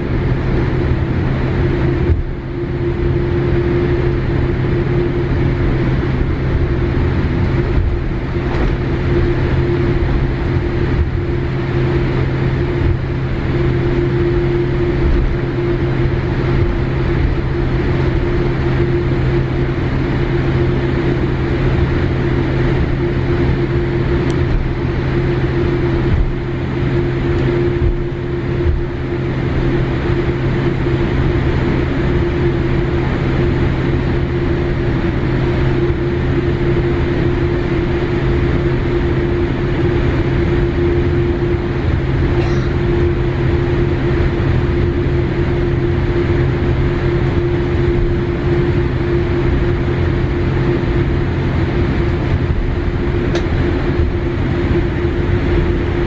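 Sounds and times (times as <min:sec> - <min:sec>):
jet engines idling in cabin: 0:00.0 - 0:56.0.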